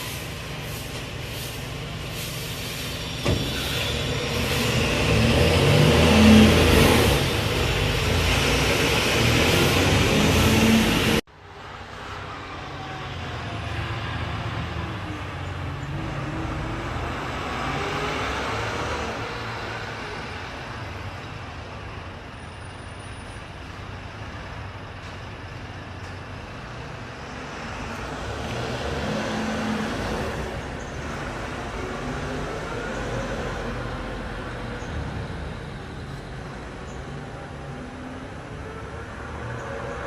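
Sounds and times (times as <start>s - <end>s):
diesel trucks passing: 0.0s - 40.0s.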